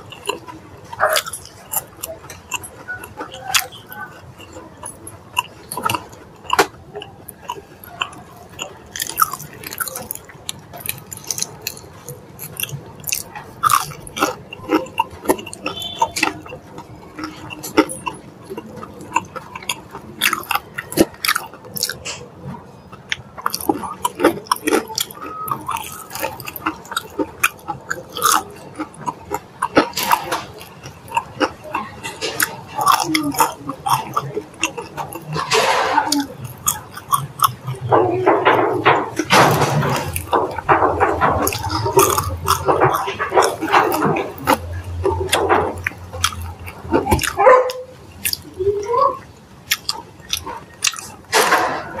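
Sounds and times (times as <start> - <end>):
crunchy chicken chewing: 0.0 - 52.0
mouth sounds: 0.0 - 52.0.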